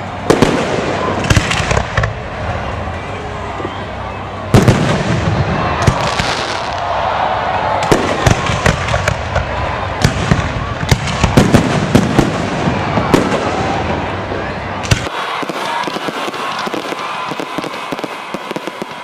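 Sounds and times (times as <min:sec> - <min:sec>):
fireworks bursting: 0:00.0 - 0:02.8, 0:04.5 - 0:19.0
crowd voices: 0:00.0 - 0:19.0.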